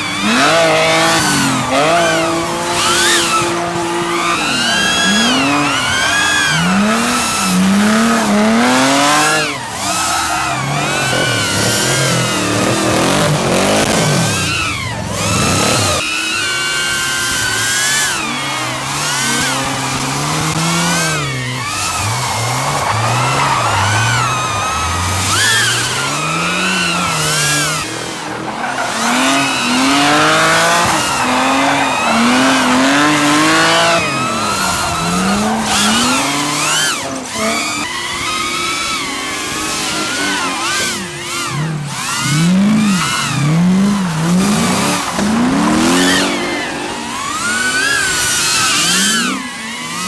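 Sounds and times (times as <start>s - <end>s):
tyre squeal: 0.0s - 49.5s
car engines revving hard: 0.0s - 50.0s.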